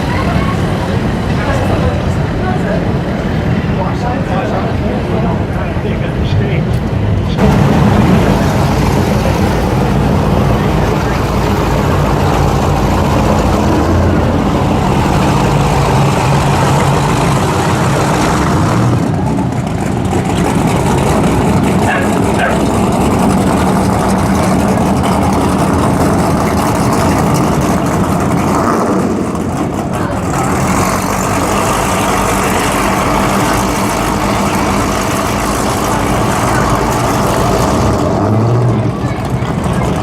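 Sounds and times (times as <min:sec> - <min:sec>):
powerboat engines rumbling: 0:00.0 - 0:40.0.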